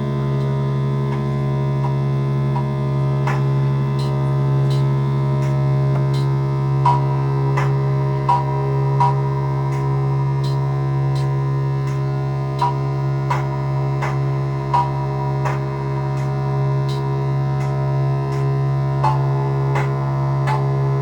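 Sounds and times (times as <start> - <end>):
low synthesizer drone: 0.0 - 21.0
sharp clicking blips: 3.3 - 20.8.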